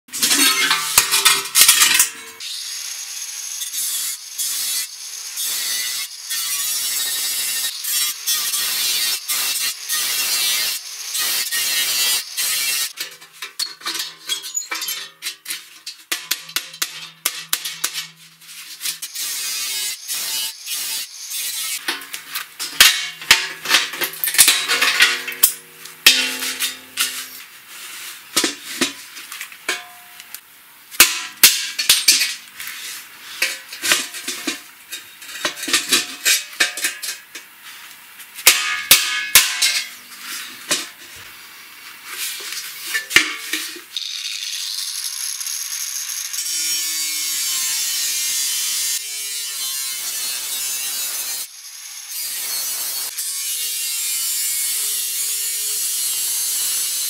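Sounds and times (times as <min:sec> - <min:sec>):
angle grinder cutting sheet metal: 0:00.1 - 0:27.5, 0:31.0 - 0:37.4, 0:42.2 - 0:57.0.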